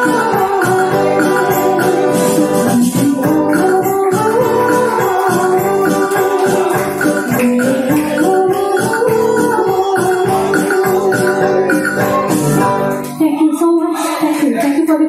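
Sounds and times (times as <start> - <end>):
hand percussion with jingles: 0.0 - 13.2.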